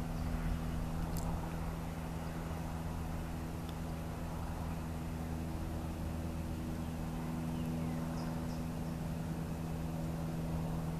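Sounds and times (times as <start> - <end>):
train low drone: 0.0 - 10.9.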